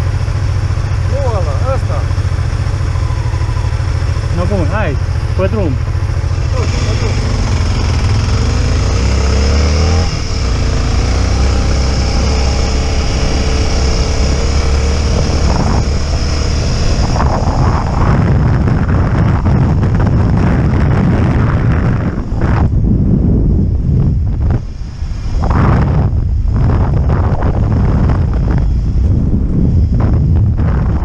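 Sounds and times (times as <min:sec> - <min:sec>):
motorcycle engine accelerating: 0:00.0 - 0:31.0
rushing noise: 0:00.0 - 0:31.0.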